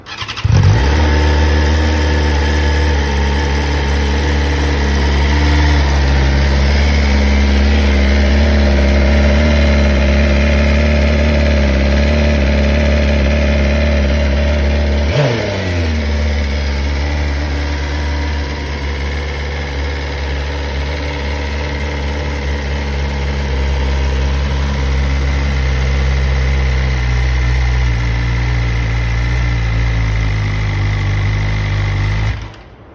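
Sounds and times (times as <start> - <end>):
motorcycle engine idling: 0.0 - 32.6.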